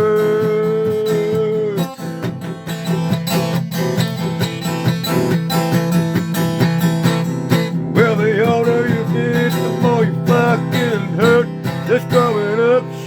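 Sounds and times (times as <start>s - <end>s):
person singing country song: 0.0s - 13.0s
strummed acoustic guitar: 0.0s - 13.0s.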